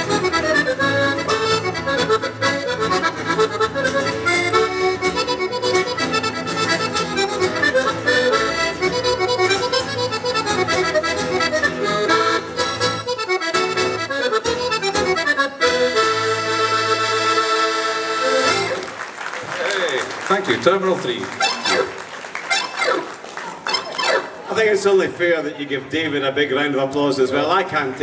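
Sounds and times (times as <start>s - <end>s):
accordion playing lively tune: 0.0s - 19.2s, 20.2s - 24.5s.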